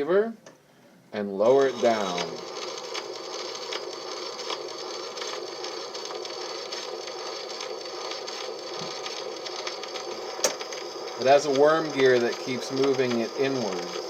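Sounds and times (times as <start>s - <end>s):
phonograph surface hiss: 0.0s - 14.0s
faint record crackles: 1.2s - 14.0s.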